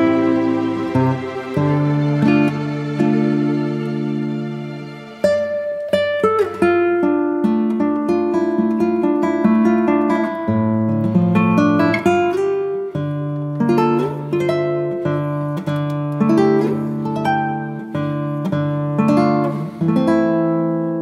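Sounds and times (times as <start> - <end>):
acoustic guitar strummed and picked: 0.0 - 21.0.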